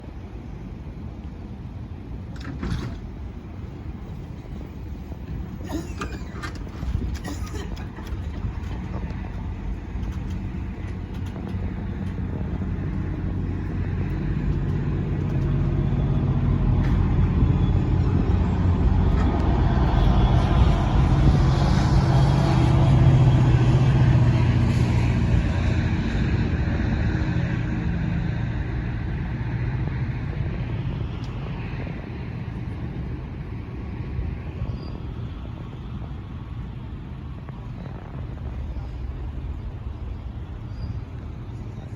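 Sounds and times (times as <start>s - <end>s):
diesel locomotive drone: 0.0s - 41.9s
train wheels rumbling on rails: 0.0s - 41.9s.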